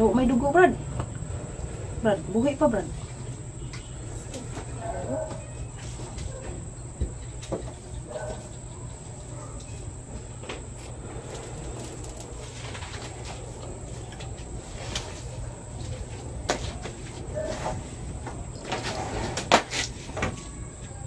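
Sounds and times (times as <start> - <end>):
crickets chirring: 0.0 - 21.0
faint voices: 0.0 - 21.0.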